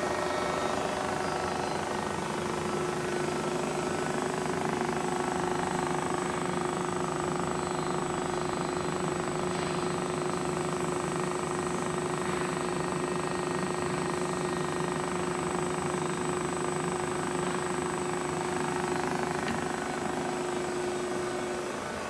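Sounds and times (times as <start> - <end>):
grinder machine hum: 0.0 - 22.0.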